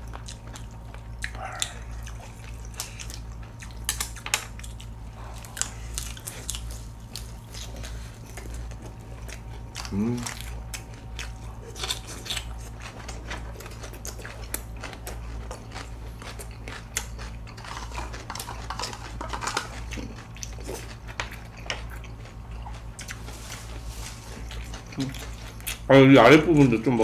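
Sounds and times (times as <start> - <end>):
person chewing with crisp crunches: 0.0 - 27.0.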